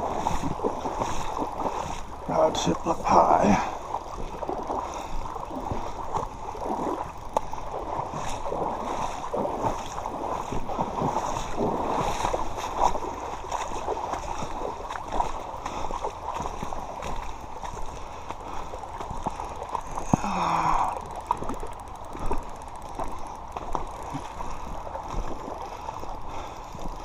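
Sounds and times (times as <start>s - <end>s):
river gurgling: 0.0s - 27.0s.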